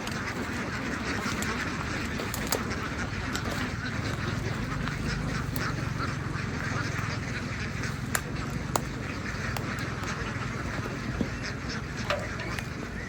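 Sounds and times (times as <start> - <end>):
ducks quacking: 0.0 - 13.0
sharp clicks: 1.1 - 12.8.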